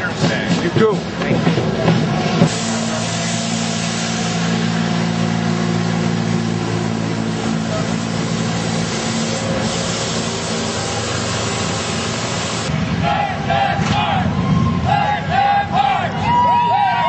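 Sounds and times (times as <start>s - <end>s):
street sweeper engine drone: 0.0s - 17.0s.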